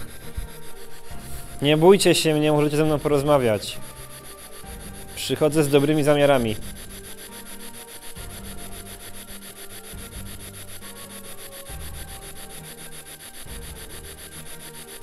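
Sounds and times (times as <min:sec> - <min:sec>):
fluttering radio static hiss: 0:00.0 - 0:15.0.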